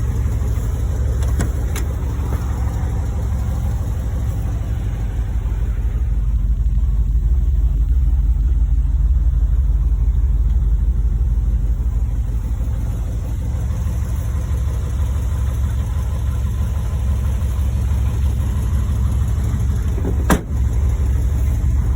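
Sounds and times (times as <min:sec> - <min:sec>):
pickup truck engine running: 0:00.0 - 0:21.9.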